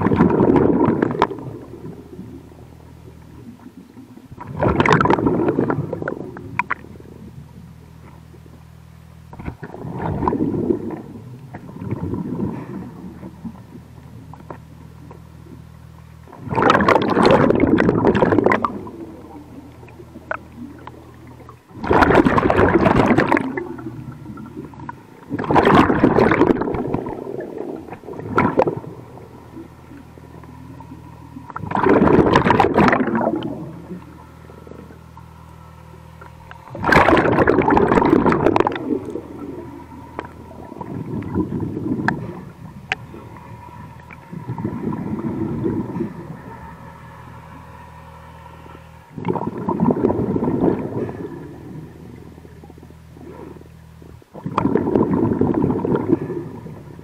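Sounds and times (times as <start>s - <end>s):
steady low hum: 0.0s - 57.0s
underwater bubbles rushing: 0.0s - 57.0s.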